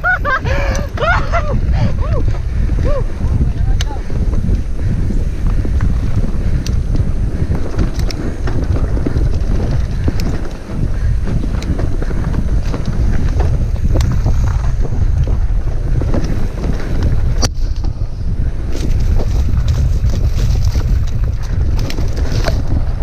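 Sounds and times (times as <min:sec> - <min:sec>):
bike clicks and rattles: 0:00.0 - 0:23.0
tyres on dirt: 0:00.0 - 0:23.0
wind buffeting microphone: 0:00.0 - 0:23.0.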